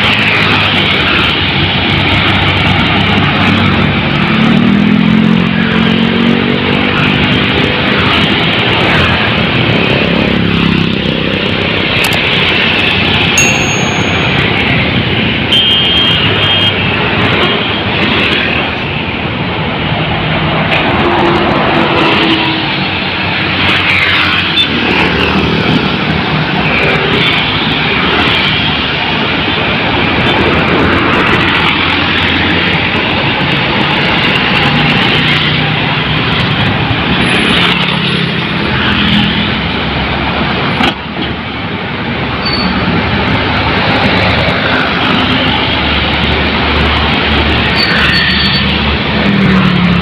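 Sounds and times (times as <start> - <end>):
heavy road traffic: 0.0 - 50.0.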